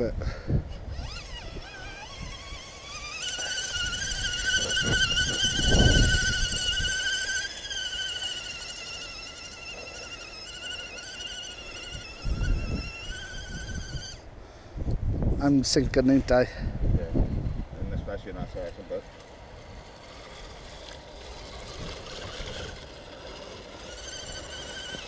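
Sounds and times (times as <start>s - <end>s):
toy truck motor whining: 0.6s - 14.4s, 18.4s - 25.0s.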